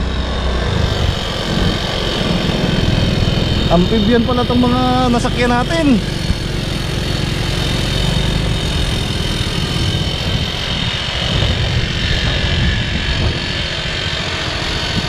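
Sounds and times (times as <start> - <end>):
constant rushing noise: 0.0 - 15.0
vehicle engine running: 0.0 - 15.0.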